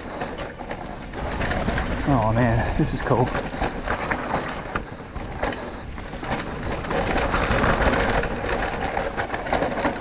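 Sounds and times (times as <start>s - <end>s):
bike rattling: 0.0s - 10.0s
tyres rolling over rough ground: 0.0s - 10.0s.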